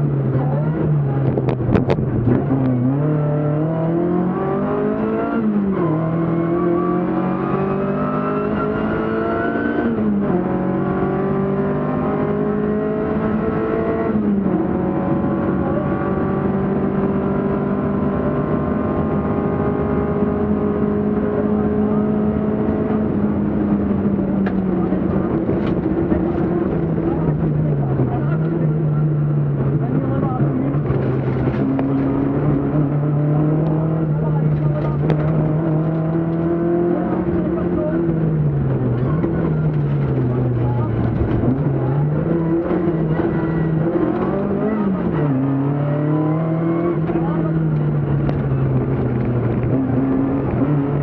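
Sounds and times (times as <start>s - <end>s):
rally car engine accelerating: 0.0s - 51.0s.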